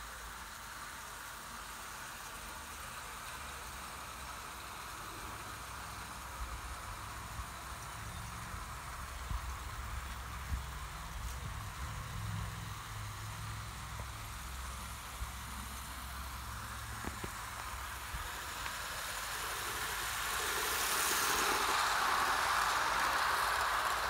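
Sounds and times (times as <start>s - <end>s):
model train wheels rumbling on rails: 0.0s - 24.0s.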